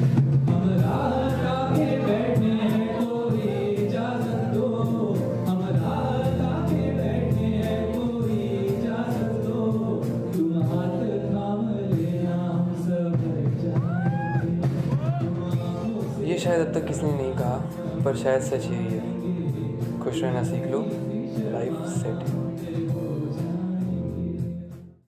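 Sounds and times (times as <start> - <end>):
drum kit beat on cymbals: 0.0 - 11.0, 11.9 - 24.8
men singing together: 0.5 - 16.6, 18.9 - 24.8.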